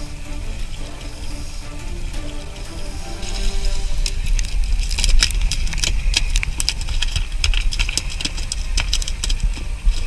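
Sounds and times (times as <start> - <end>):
boat engine rumbling: 0.0 - 10.0.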